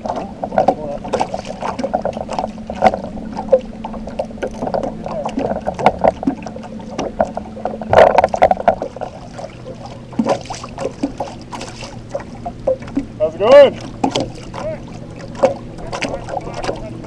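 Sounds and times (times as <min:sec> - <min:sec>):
boat motor humming: 0:00.0 - 0:17.0
knocks and clatter in metal boat: 0:00.0 - 0:17.0.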